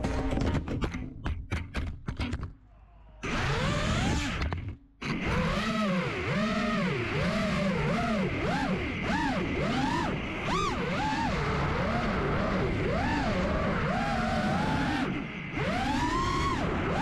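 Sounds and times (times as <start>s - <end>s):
quadcopter motors whining: 3.2s - 17.0s.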